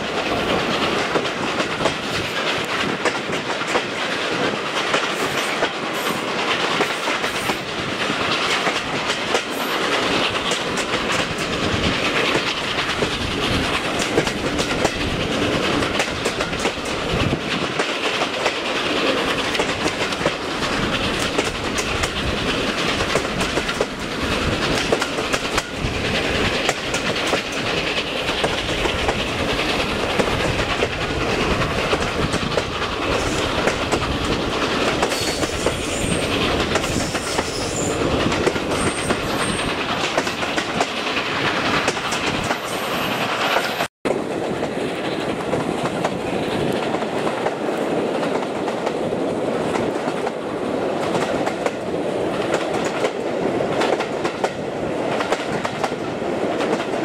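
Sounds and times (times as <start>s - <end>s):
passenger train running: 0.0s - 57.0s
wheels clicking over rail joints: 0.0s - 57.0s.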